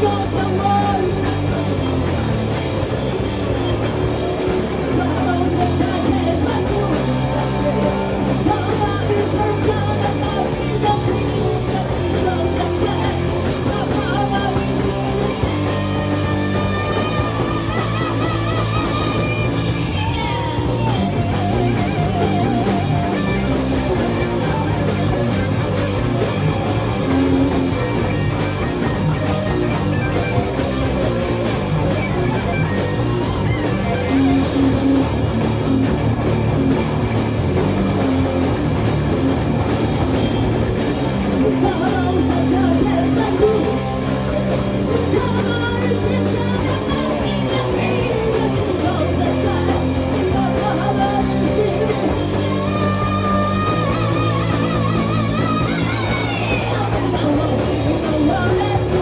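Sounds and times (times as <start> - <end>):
lead singer's voice: 0.0 - 2.7, 3.5 - 36.0, 40.6 - 59.0
rock band playing: 0.0 - 59.0.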